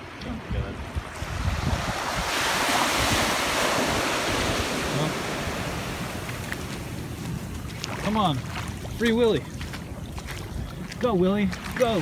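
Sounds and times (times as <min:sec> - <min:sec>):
surf washing on sand: 0:00.0 - 0:12.0
wind rumbling on microphone: 0:00.0 - 0:12.0.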